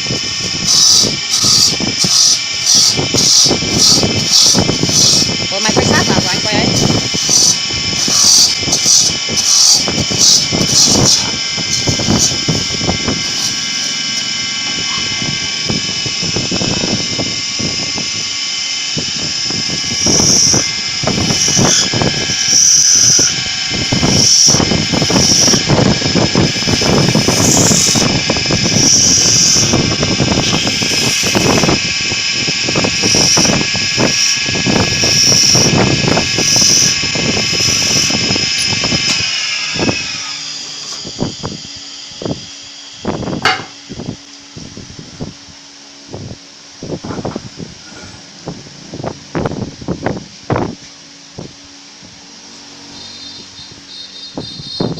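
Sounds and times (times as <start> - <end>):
cutter scraping spinning wood: 0.0 - 44.7, 52.2 - 54.9
woodworking lathe whining: 0.0 - 54.9.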